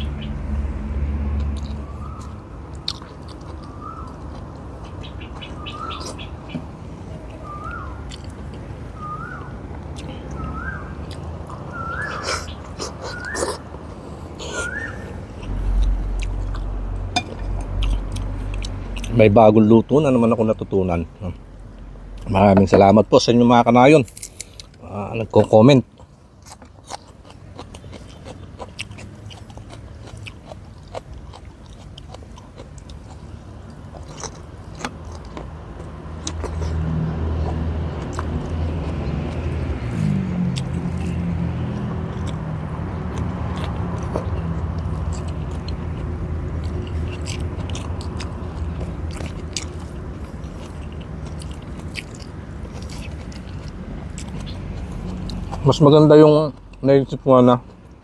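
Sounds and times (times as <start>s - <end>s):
low engine hum: 0.0s - 25.2s, 28.8s - 58.0s
man chewing with wet smacks: 1.3s - 20.4s, 24.2s - 58.0s.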